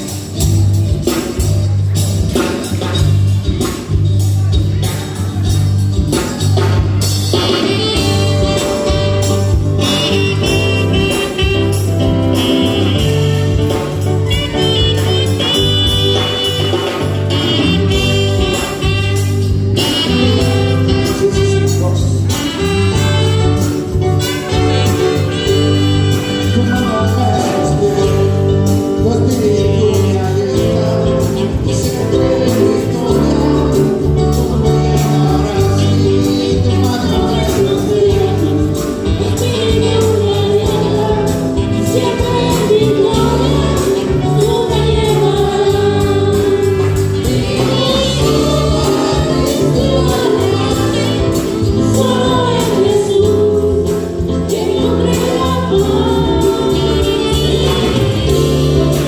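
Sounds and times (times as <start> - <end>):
live band music through speakers: 0.0 - 59.0
person singing: 0.0 - 59.0.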